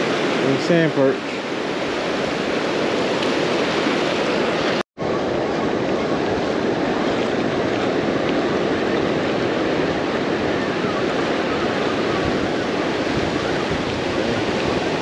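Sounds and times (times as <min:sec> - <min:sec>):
surf breaking on a beach: 0:00.0 - 0:15.0.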